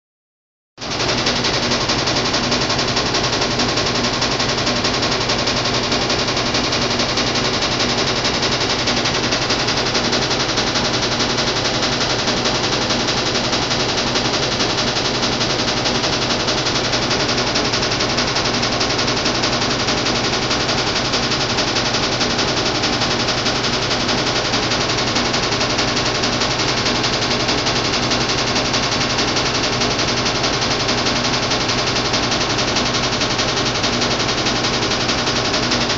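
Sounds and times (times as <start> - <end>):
washing machine rattling: 0.9 - 35.9.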